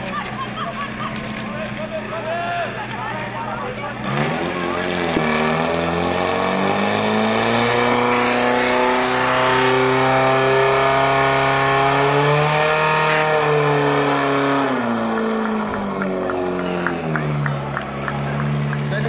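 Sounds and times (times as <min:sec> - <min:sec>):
pump engine running at high revs: 0:00.0 - 0:19.0.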